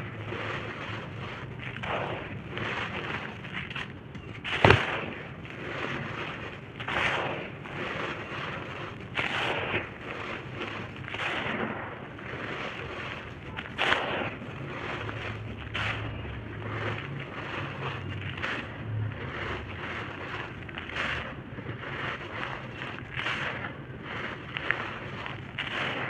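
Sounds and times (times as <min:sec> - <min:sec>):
brick and dirt crunching: 0:00.0 - 0:26.0.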